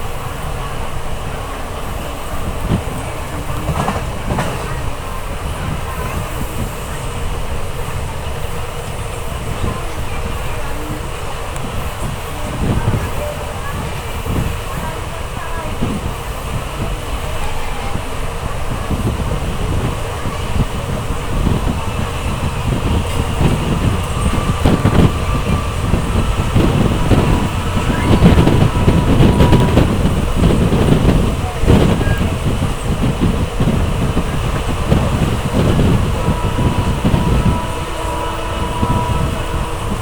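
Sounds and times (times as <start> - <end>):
train wheels rumbling on rails: 0.0 - 40.0
wind buffeting microphone: 0.0 - 40.0.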